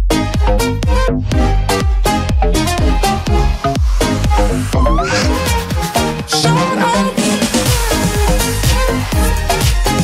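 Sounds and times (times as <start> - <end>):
steady kick drum: 0.0 - 6.3, 7.5 - 10.0
electronic dance music: 0.0 - 10.0.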